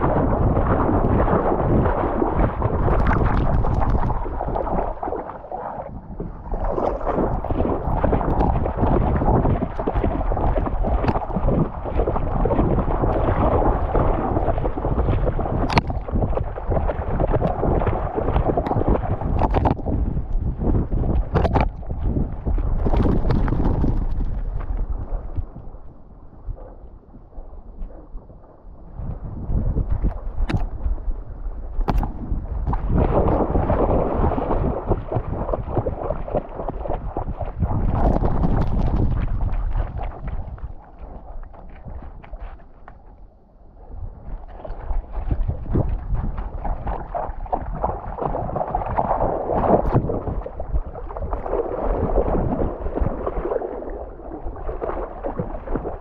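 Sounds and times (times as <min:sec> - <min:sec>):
water rushing and sloshing: 0:00.0 - 0:56.0
wind buffeting camera: 0:00.0 - 0:56.0.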